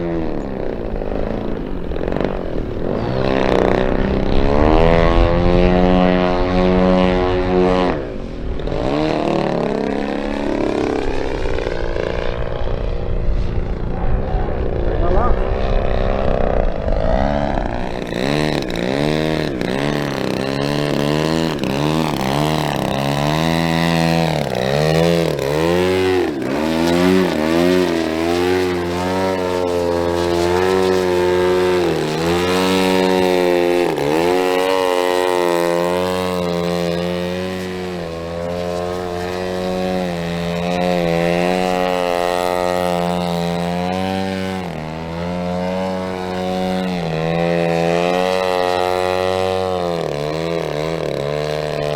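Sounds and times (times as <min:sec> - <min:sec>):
model plane engine swooping: 0:00.0 - 0:51.9.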